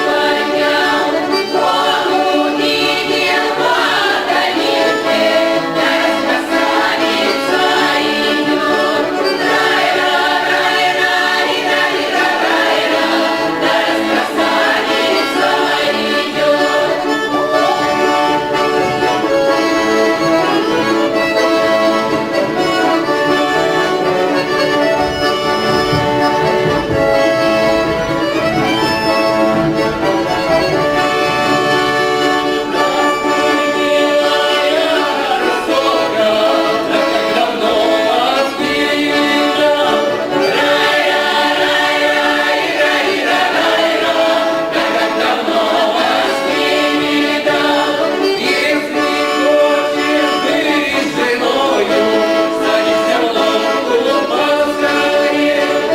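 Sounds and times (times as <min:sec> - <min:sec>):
accordion: 0:00.0 - 0:55.9
choir singing folk song: 0:00.0 - 0:55.9.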